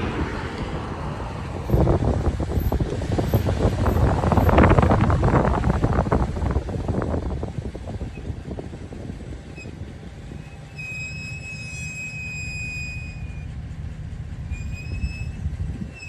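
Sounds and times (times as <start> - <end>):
brakes squealing: 0.0 - 16.0
low vehicle rumble: 0.0 - 16.0.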